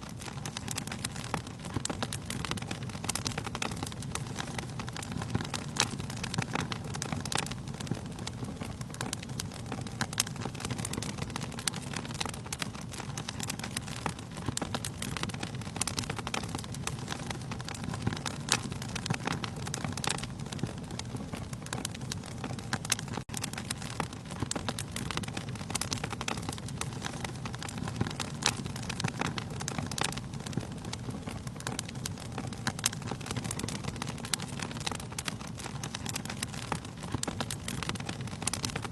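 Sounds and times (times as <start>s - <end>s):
logs crackling and popping: 0.0s - 38.9s
low rush of flames: 0.0s - 38.9s.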